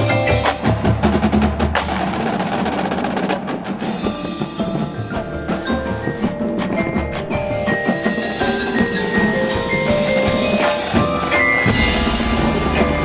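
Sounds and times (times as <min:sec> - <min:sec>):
mallet percussion ringing: 0:00.0 - 0:01.6, 0:03.9 - 0:13.0
marching band playing: 0:00.0 - 0:13.0.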